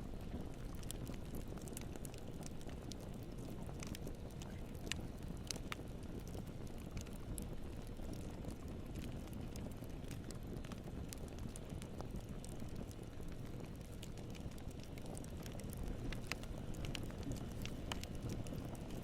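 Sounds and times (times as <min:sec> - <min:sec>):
burning wood crackling and popping: 0:00.0 - 0:19.0
campfire flames rumbling: 0:00.0 - 0:19.0.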